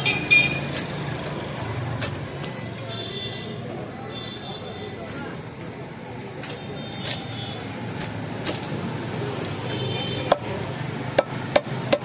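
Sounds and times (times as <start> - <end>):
market noise: 0.0 - 12.0
traffic noise: 0.0 - 12.0.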